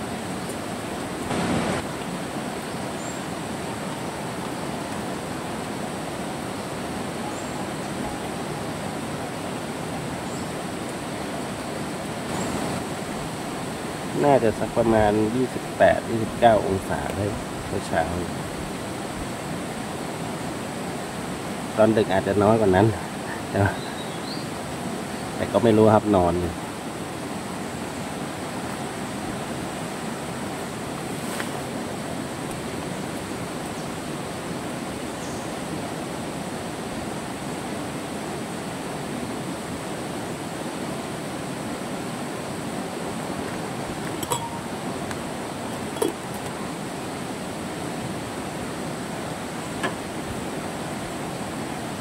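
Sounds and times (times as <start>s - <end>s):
stream rushing: 0.0s - 52.0s.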